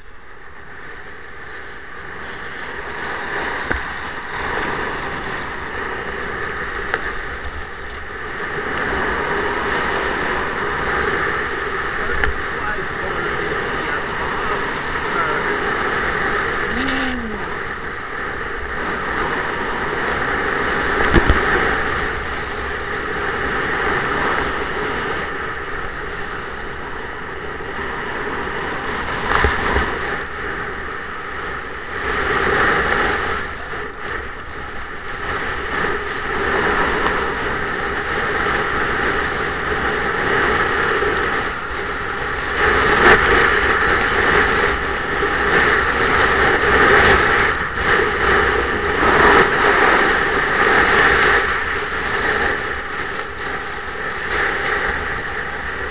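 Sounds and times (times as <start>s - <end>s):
snowboard carving over snow: 0.6s - 55.9s.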